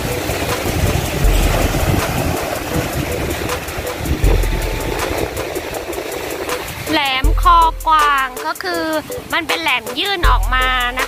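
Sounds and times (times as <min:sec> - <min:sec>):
wind buffeting microphone: 0:00.0 - 0:09.3
waves breaking on rocky shore: 0:00.0 - 0:11.0.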